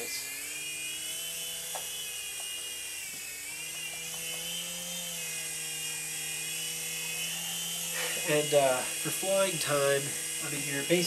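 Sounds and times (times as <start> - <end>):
toy helicopter rotor whine: 0.0 - 11.0.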